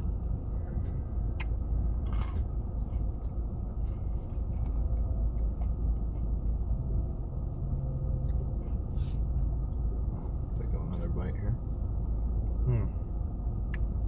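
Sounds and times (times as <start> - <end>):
car cabin rumble: 0.0 - 14.0
low steady hum: 0.0 - 14.0.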